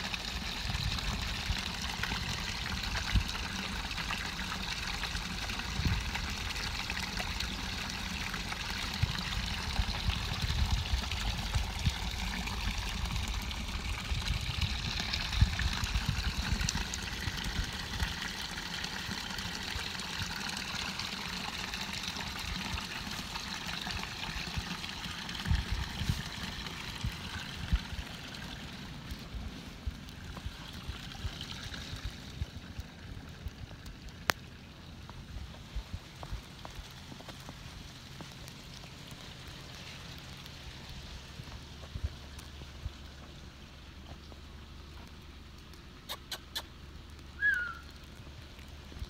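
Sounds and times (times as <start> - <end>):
water pouring from a pipe: 0.0 - 49.0.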